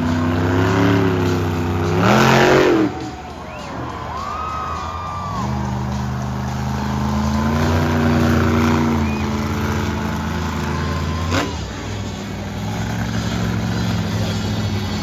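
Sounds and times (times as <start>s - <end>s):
truck engine running low: 0.0s - 15.0s.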